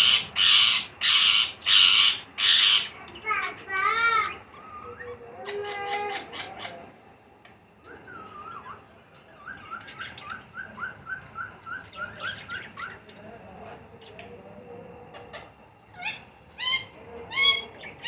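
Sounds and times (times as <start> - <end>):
baby parakeets begging calls: 0.0 - 7.1, 7.8 - 18.0.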